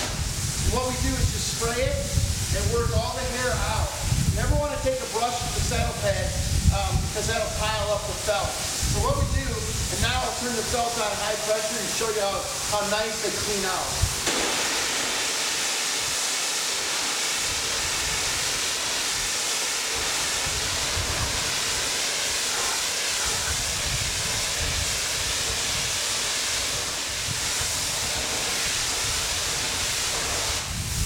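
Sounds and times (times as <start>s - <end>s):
pressure washer spray hissing: 0.0s - 31.0s.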